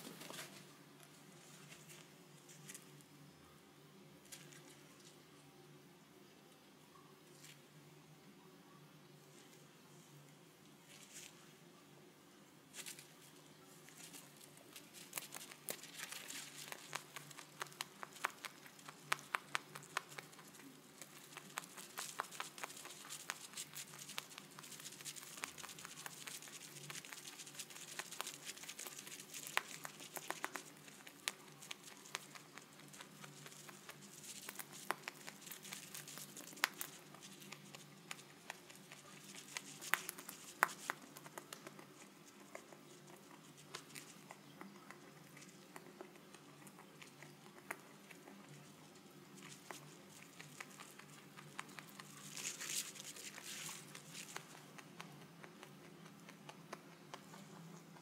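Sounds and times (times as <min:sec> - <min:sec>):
rabbit chewing dry hay: 0:00.0 - 0:03.1, 0:10.6 - 0:11.6, 0:12.7 - 0:58.0.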